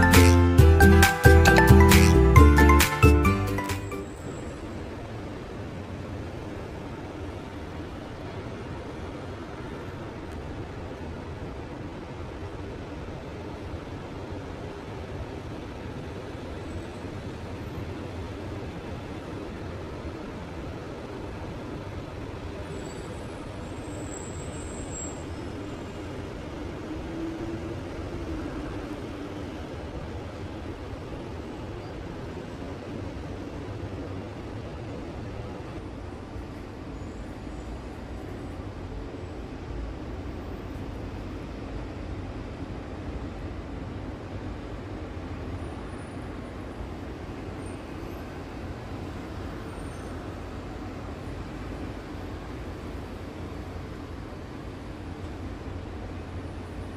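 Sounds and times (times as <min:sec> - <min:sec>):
distant city traffic hum: 0:00.0 - 0:56.9.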